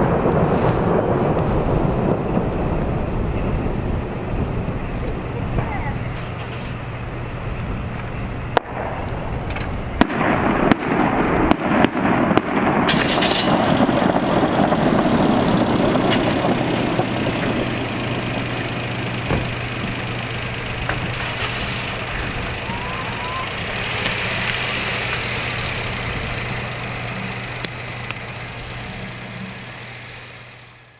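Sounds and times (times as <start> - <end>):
fireworks bangs: 0.0 - 30.9
rumbling wash of fireworks: 0.0 - 30.9.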